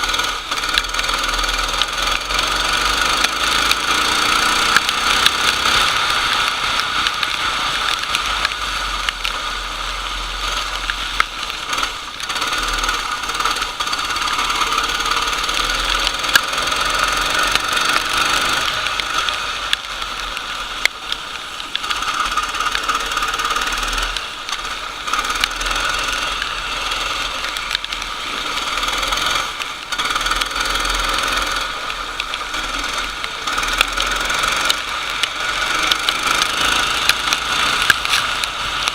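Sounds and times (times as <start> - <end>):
racing kart engine at high revs: 0.0 - 38.9
steady harsh noise: 0.0 - 38.9.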